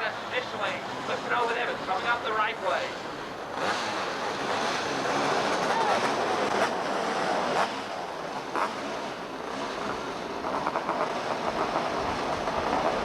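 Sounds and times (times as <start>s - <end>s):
race car engines: 0.0s - 13.0s
steady rush of noise: 0.0s - 13.0s.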